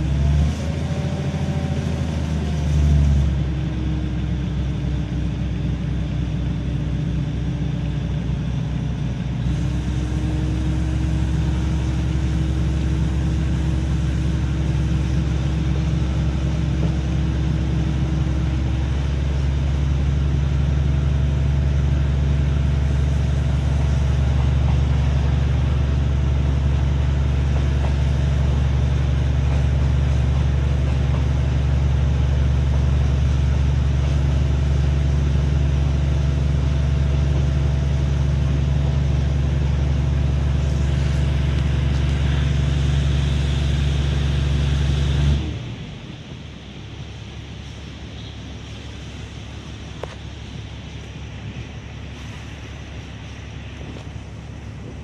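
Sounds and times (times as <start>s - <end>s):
diesel train drone from inside: 0.0s - 55.0s.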